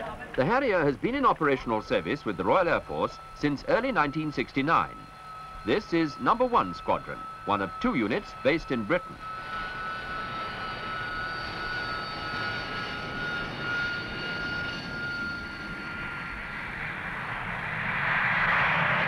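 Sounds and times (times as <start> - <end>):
jet engine whining: 0.0 - 19.0
jet engine roar at full power: 0.1 - 19.0.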